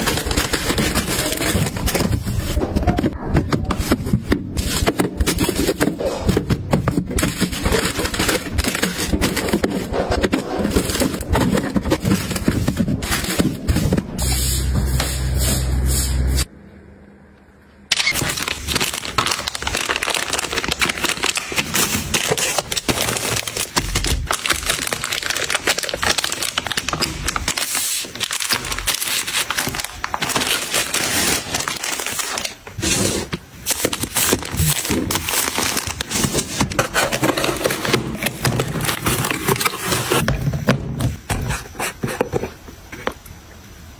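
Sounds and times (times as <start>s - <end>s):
plastic packaging crinkling: 0.0s - 14.2s, 17.9s - 40.3s.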